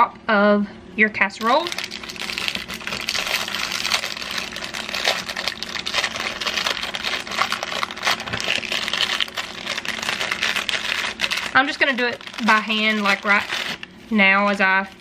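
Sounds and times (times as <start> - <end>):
crackers crushed in plastic wrapper: 1.4 - 15.0.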